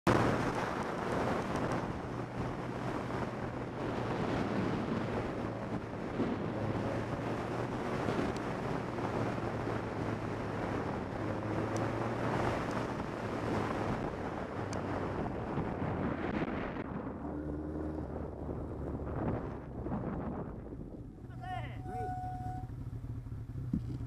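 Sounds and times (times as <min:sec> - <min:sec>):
wind rush on microphone: 0:00.1 - 0:22.6.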